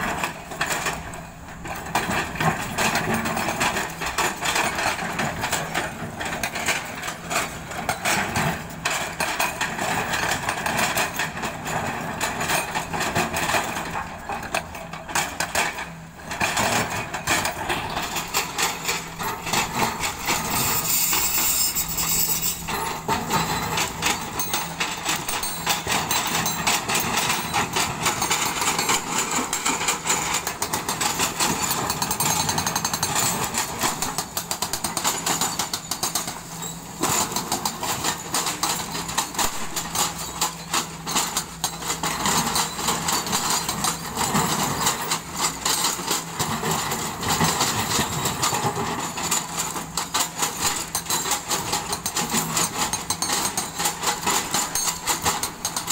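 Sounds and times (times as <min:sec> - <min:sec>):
hydraulic breaker hammering rock: 0:00.1 - 0:55.9.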